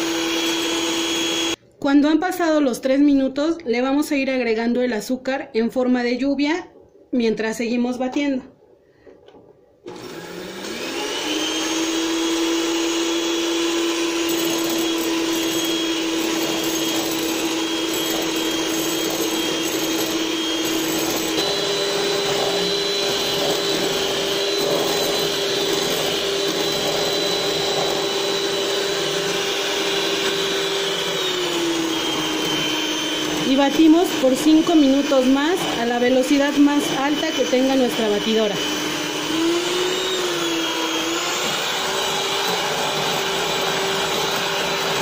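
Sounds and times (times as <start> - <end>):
electric hand mixer whining: 0.0 - 1.6, 9.8 - 45.0.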